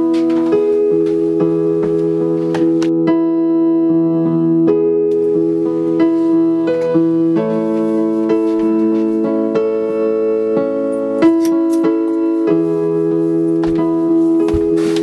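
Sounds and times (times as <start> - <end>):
music of sustained chords: 0.0 - 15.0.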